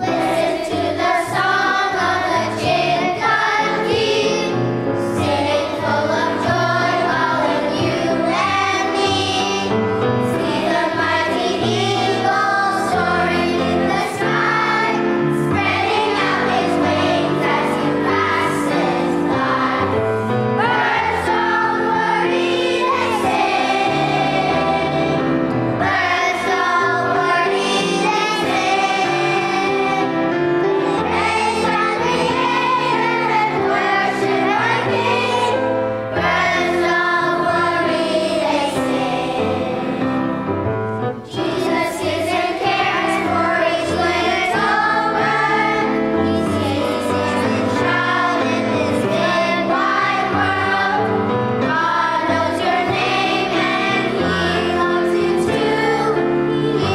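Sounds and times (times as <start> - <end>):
children's choir singing: 0.0 - 56.9.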